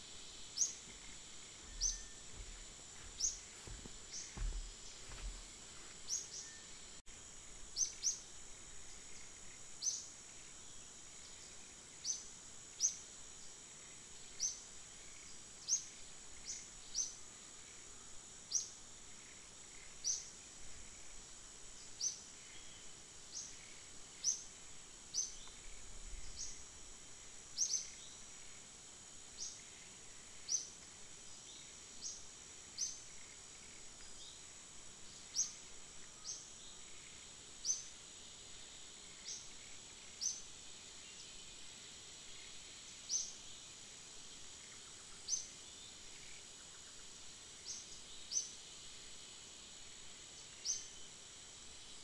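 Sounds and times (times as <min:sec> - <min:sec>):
high insect buzz: 0:00.0 - 0:52.0.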